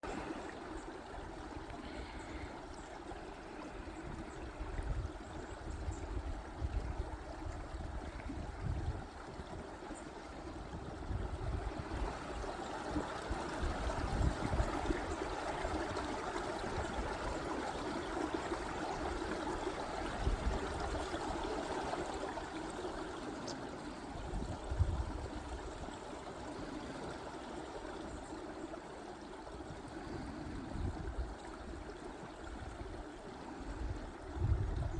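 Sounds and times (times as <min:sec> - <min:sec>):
stream water rushing: 0:00.0 - 0:06.2, 0:09.3 - 0:34.9.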